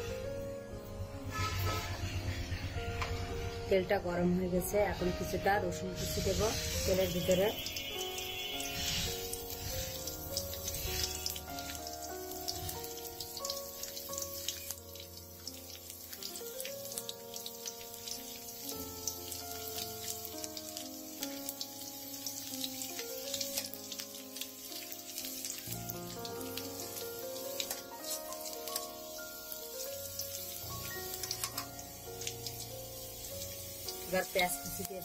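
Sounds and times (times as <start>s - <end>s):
garlic sizzling in hot oil: 0.0s - 35.0s
soft background music: 0.0s - 35.0s.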